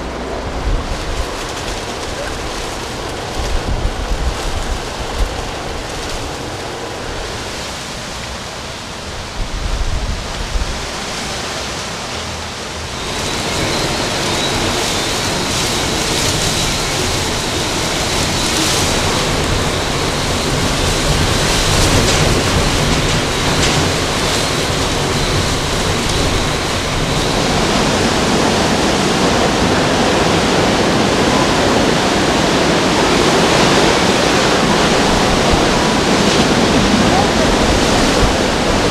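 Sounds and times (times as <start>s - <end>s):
wind thumping on microphone: 0.0s - 8.3s, 9.1s - 11.4s, 13.0s - 38.9s
hurricane wind: 0.0s - 38.9s
rain: 0.0s - 38.9s.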